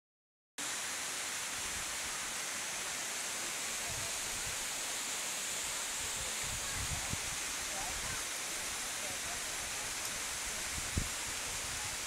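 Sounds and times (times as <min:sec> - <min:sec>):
steady hiss: 0:00.6 - 0:12.0.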